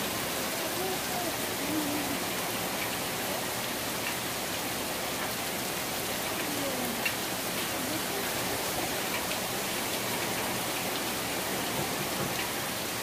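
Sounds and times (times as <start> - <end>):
heavy rain pouring: 0.0 - 13.0
water streaming off roof: 0.0 - 13.0.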